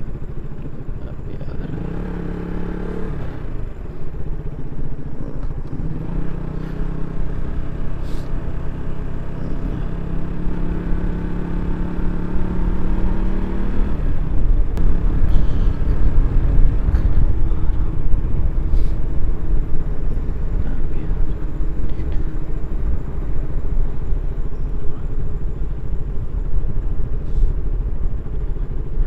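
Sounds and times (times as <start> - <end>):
motorcycle engine: 0.0 - 29.0
wind and road noise: 0.0 - 29.0.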